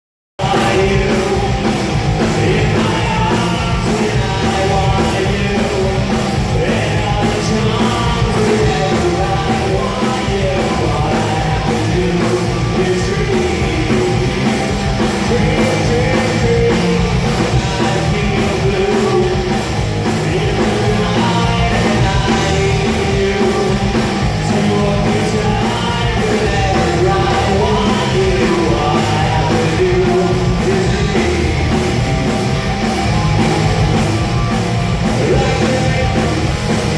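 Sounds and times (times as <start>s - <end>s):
person singing: 0.4s - 32.4s, 35.0s - 36.9s
fast drum beat: 0.4s - 36.9s
rock band playing punk rock: 0.4s - 36.9s.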